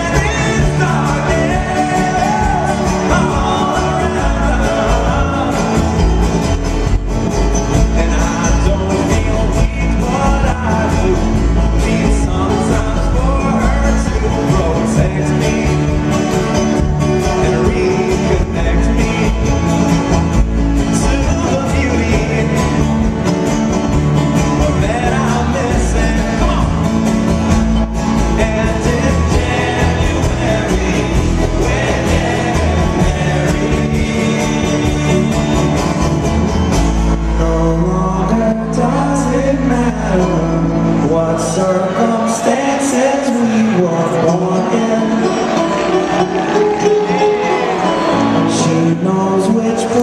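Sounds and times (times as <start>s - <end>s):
man singing: 0.0s - 6.5s, 7.6s - 36.3s, 37.2s - 50.0s
acoustic strings plucked and strummed: 0.0s - 50.0s.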